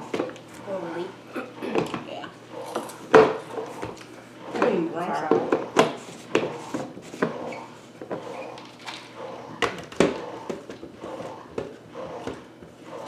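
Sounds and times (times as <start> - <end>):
kitchen items knocking and clicking: 1.6 - 12.8.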